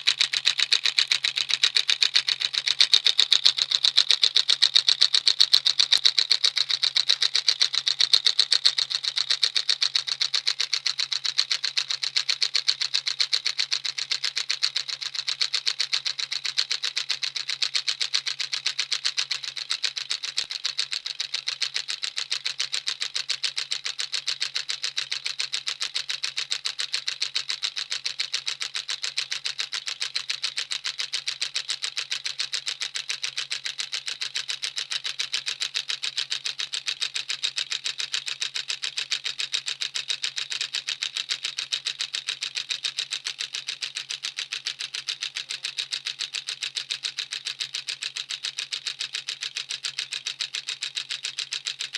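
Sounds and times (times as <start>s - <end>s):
electromagnet engine clicking: 0.0s - 51.9s.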